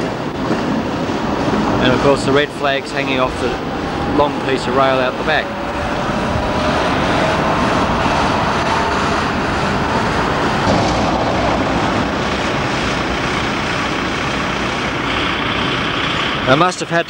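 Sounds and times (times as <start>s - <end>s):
street traffic: 0.0s - 17.0s
tram hauling rails: 0.0s - 17.0s.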